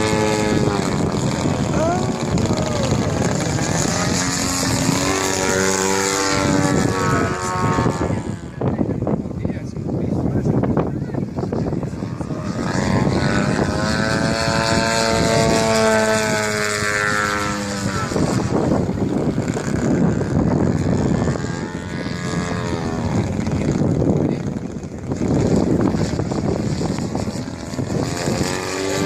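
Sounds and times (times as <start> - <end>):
model plane engine passing: 0.0 - 29.0.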